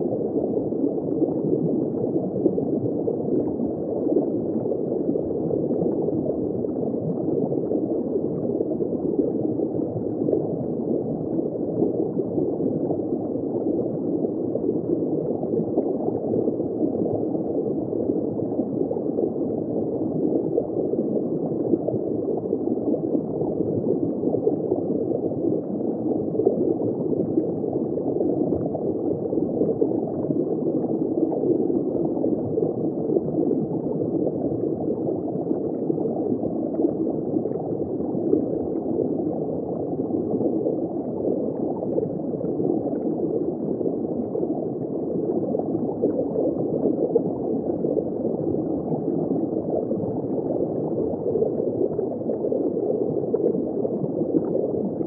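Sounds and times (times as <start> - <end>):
aquarium water gurgling: 0.0 - 55.0.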